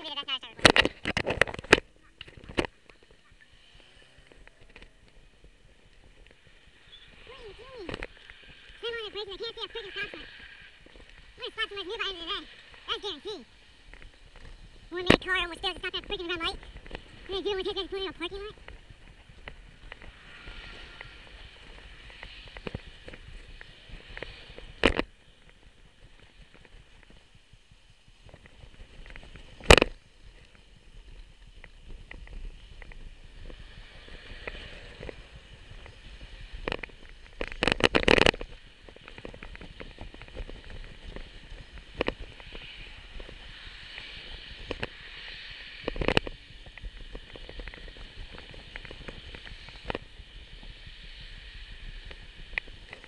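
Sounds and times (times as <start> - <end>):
bicycle rumbling and rattling: 0.0 - 53.0.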